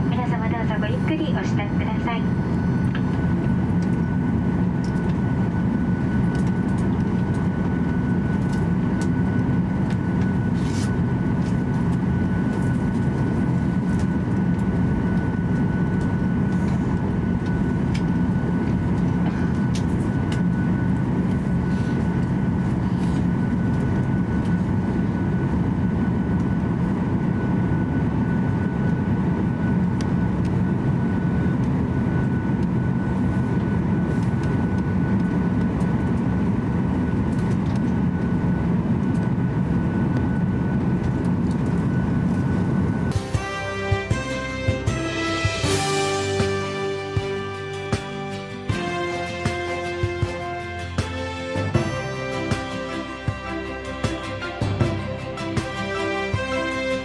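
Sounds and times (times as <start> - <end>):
airliner engines humming: 0.0 - 57.0.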